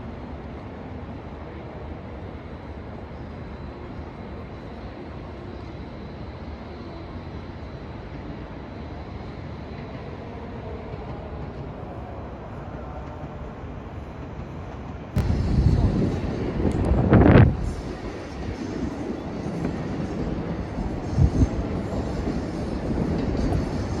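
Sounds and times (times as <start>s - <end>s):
train noise: 0.0s - 24.0s.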